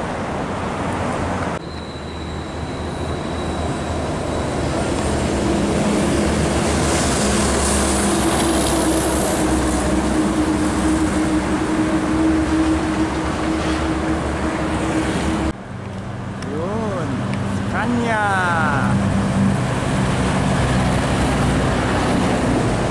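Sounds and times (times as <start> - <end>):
truck traffic: 0.0 - 22.9
diesel truck passing: 2.2 - 22.9.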